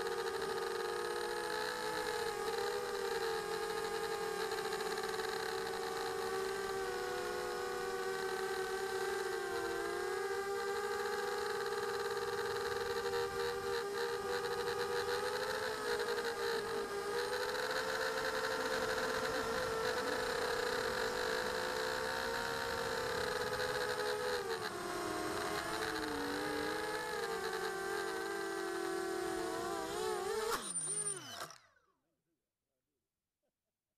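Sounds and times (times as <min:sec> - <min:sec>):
drone motors whining: 0:00.0 - 0:31.9.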